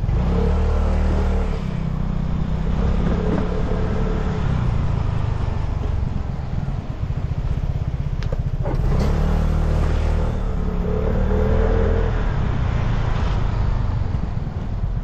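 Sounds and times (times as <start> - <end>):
scooter engine humming: 0.0 - 15.0.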